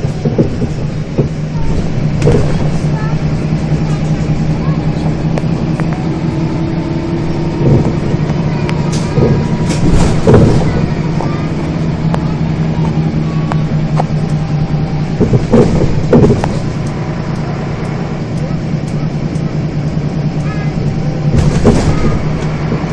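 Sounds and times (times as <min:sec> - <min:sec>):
bus body knocks and rattles: 0:00.0 - 0:22.9
bus engine running: 0:00.0 - 0:22.9.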